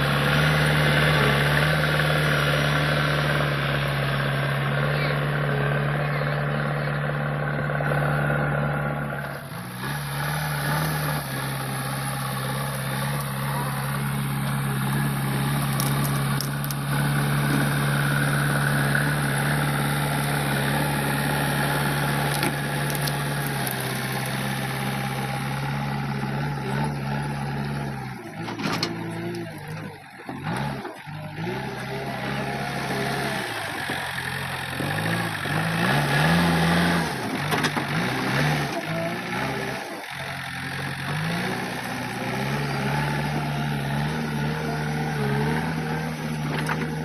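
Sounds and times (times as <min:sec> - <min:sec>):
diesel engine running under load: 0:00.0 - 0:47.0
loader bucket pushing through soil: 0:09.2 - 0:47.0.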